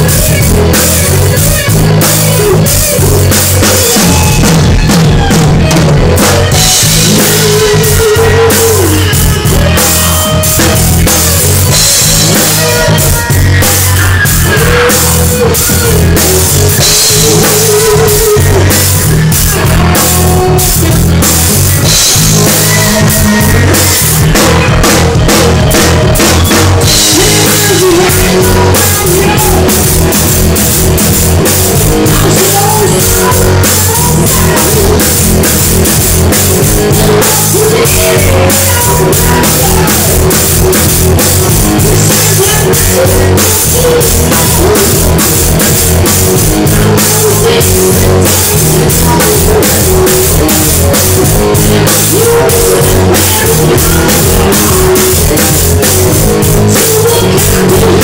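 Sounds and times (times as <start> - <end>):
band playing: 0.0 - 58.0
heavy metal drumming: 0.0 - 58.0.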